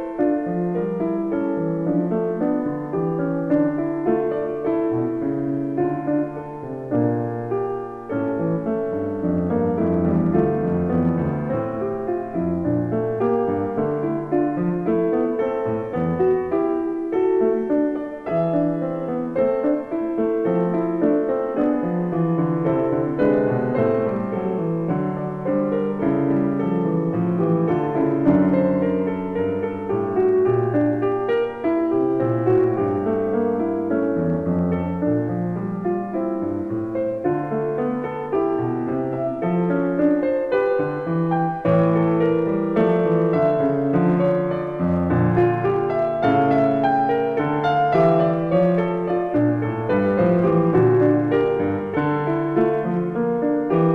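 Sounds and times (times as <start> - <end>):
piano music: 0.0 - 53.9.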